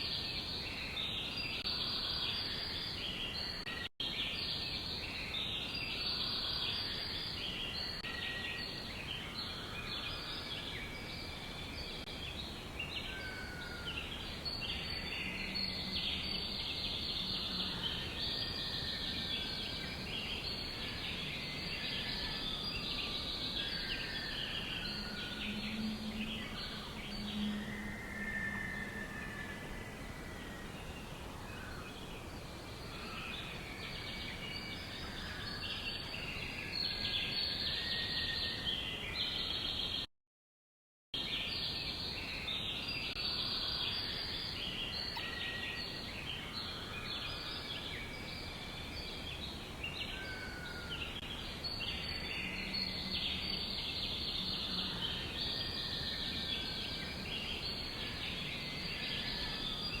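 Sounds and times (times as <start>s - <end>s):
songbirds chirping and twittering: 0.0s - 40.1s, 41.2s - 60.0s.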